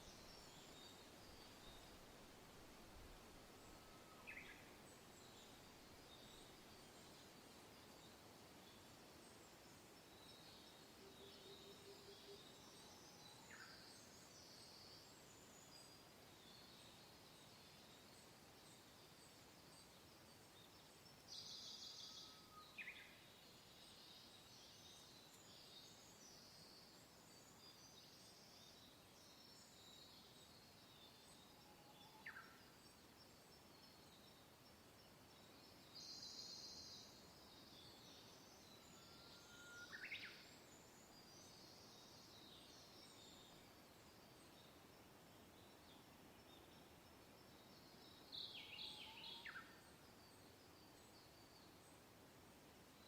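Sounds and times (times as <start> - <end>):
soft wind hiss: 0.0 - 53.0.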